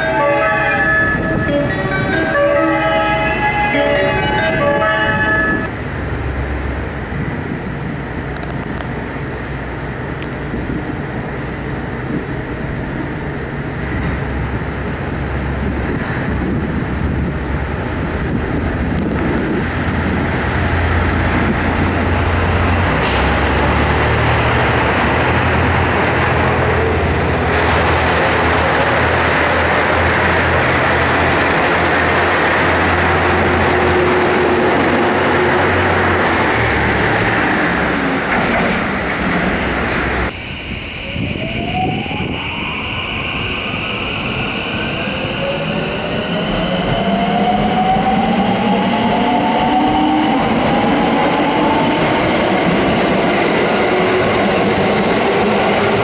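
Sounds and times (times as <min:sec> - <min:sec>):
diesel train engines droning: 0:00.0 - 0:56.0.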